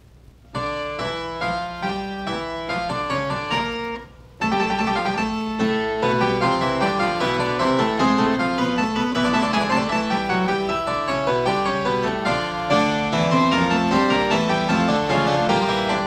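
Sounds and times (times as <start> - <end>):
piano music: 0.5 - 16.0.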